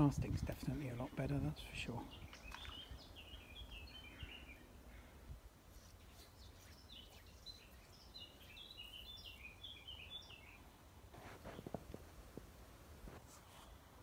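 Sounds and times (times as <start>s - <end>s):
songbird singing: 0.0s - 11.8s.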